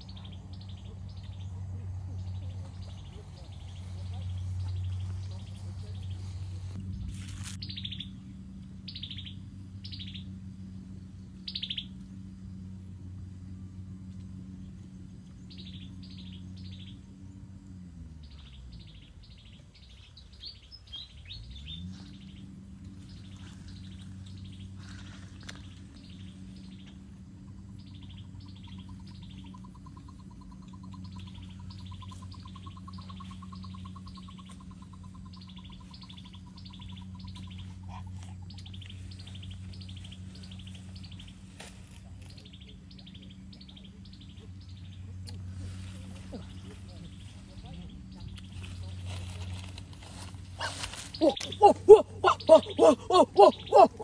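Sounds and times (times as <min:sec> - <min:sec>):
small birds chirping: 0:00.0 - 0:06.8, 0:07.4 - 0:54.0
steady low hum: 0:00.0 - 0:54.0.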